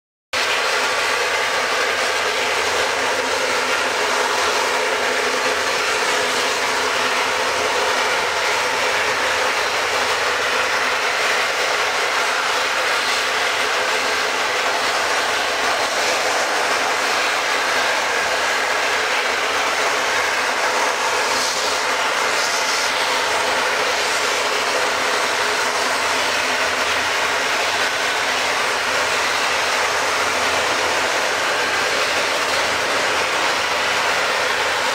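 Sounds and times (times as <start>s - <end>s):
jet engines humming and whining: 0.4s - 34.9s.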